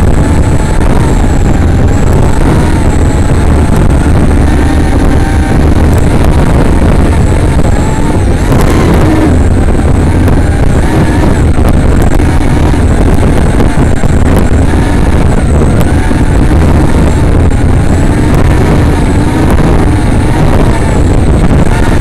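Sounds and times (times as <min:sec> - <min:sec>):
drone motors whining: 0:00.0 - 0:22.0
wind rumble: 0:00.0 - 0:22.0.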